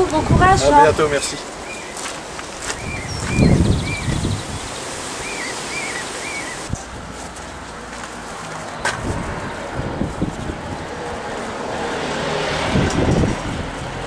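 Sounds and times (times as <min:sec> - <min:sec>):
wind rumbling on microphone: 0:00.0 - 0:01.5, 0:02.2 - 0:07.3, 0:08.6 - 0:14.0.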